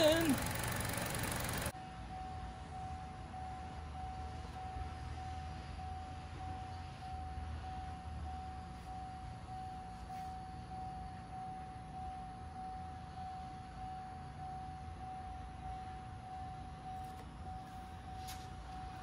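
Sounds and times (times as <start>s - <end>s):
car engine idling with whine: 0.0s - 19.0s.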